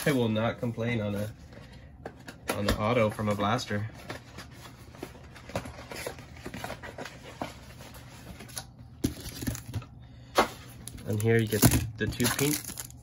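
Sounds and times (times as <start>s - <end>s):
cards and cardboard box handled: 0.0s - 9.8s, 10.4s - 13.0s.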